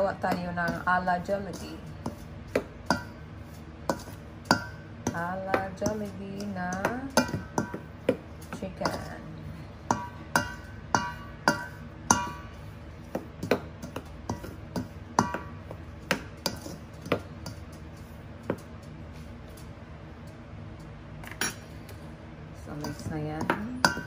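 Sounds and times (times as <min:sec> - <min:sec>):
utensil clinking in metal bowl: 0:00.0 - 0:18.7, 0:22.6 - 0:24.0.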